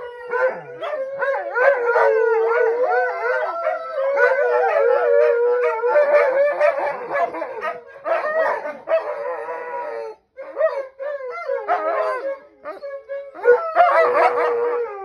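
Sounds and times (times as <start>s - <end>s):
dogs howling: 0.0s - 15.0s.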